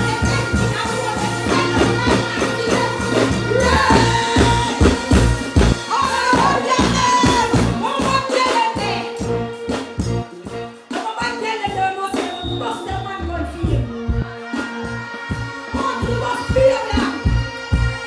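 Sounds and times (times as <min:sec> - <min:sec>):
woman singing into a microphone: 0:00.0 - 0:09.3, 0:11.0 - 0:18.0
live music with heavy beat: 0:00.0 - 0:18.0.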